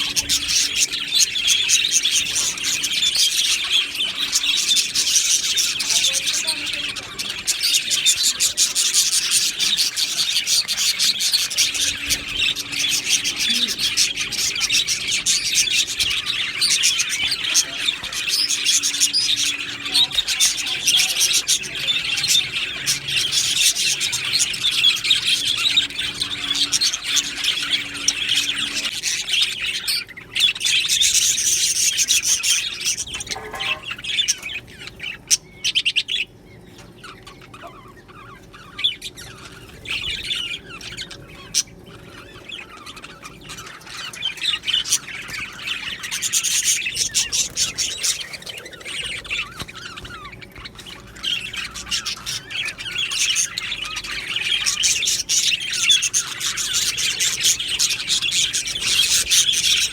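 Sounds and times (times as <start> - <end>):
bird squawk: 0.0 - 59.9
budgerigars chattering: 0.0 - 59.9.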